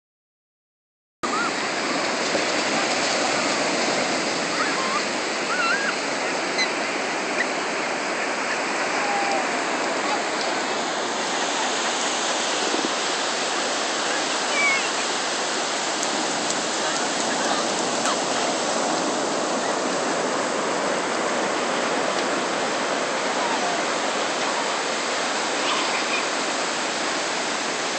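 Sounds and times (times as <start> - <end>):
ocean surf breaking: 1.2 - 27.9.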